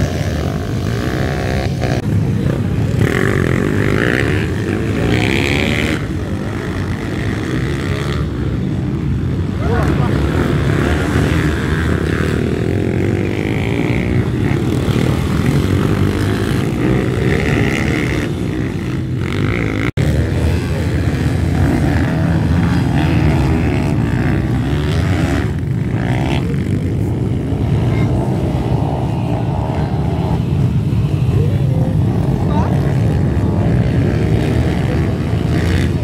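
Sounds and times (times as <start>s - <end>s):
small motorbike engines revving: 0.0s - 36.0s.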